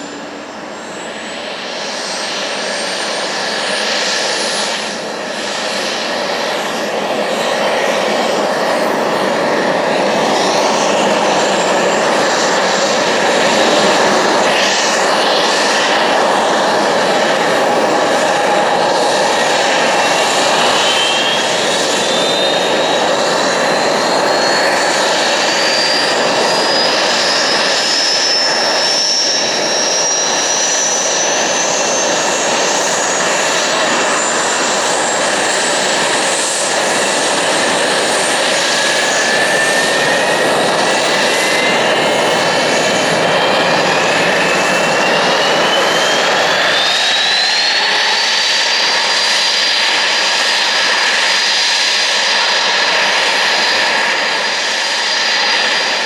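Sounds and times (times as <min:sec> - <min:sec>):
high engine whine: 0:00.0 - 0:56.0
jet engines roaring: 0:00.0 - 0:56.0.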